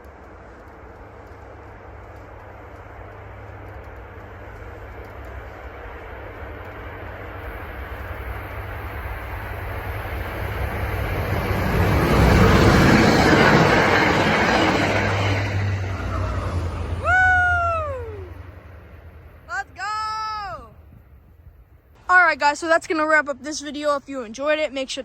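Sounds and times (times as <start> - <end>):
train rumble and wheel noise: 0.0 - 23.7.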